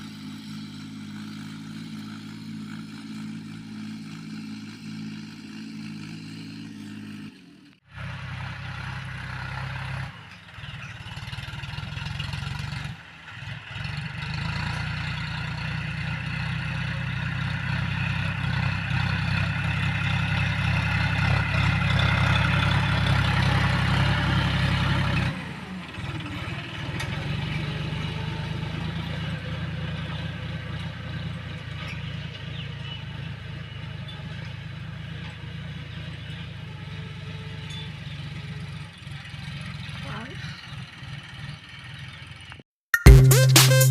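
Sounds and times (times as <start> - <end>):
tractor engine running under load: 0.0 - 42.6.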